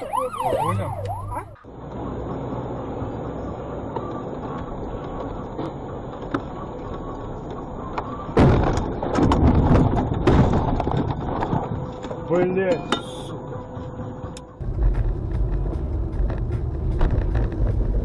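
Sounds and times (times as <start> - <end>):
vehicle road and engine rumble: 0.0 - 18.0.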